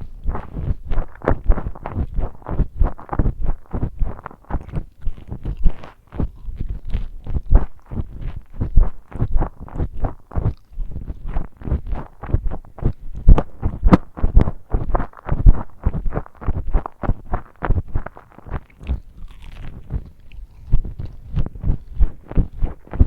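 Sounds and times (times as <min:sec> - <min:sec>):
person chewing and smacking: 0:00.0 - 0:23.0.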